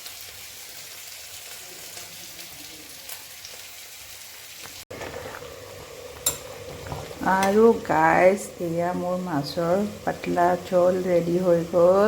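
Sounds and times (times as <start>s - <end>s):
curry boiling in a pan: 0.0s - 12.0s.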